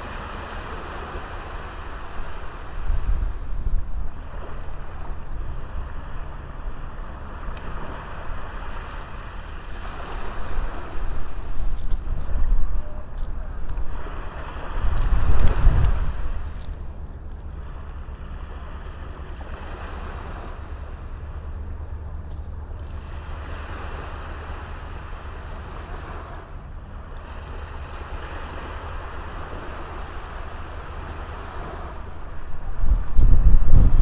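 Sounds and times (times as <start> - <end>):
small waves washing onto beach: 0.0 - 34.0.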